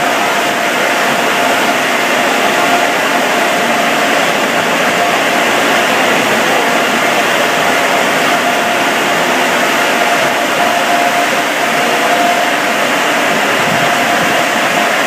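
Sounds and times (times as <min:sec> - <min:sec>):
air dryer blowers rushing: 0:00.0 - 0:15.0.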